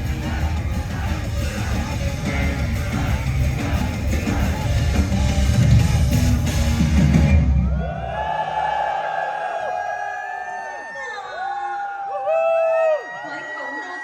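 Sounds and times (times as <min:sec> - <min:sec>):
audience cheering and screaming: 0:00.0 - 0:14.0.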